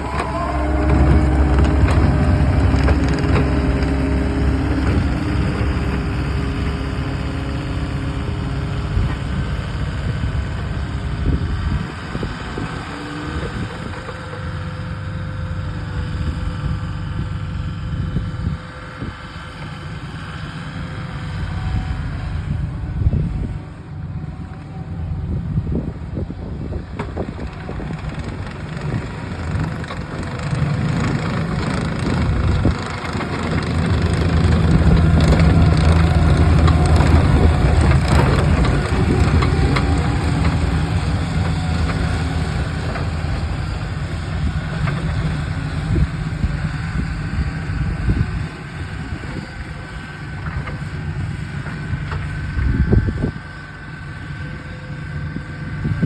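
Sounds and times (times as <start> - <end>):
diesel engine plowing snow: 0.0 - 56.0.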